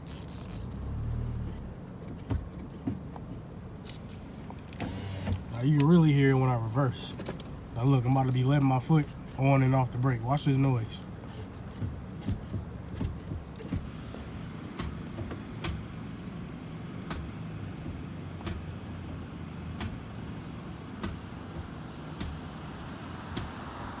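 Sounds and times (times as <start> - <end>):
brake clicking: 0.0 - 22.6
car engine running: 0.0 - 24.0.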